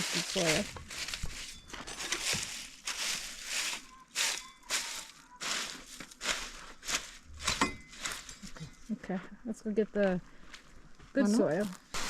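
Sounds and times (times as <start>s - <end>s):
compost and soil crunching: 0.0s - 8.7s, 10.6s - 12.0s.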